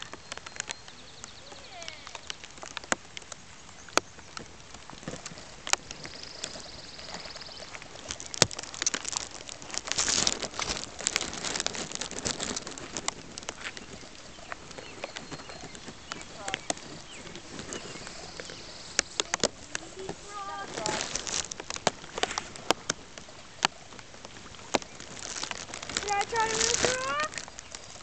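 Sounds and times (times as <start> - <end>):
rain falling on pond water: 0.0 - 28.0.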